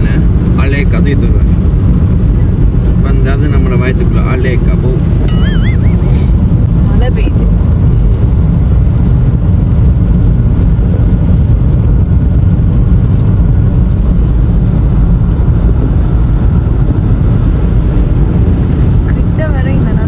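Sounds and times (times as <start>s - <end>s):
vehicle low rumble: 0.0s - 20.0s.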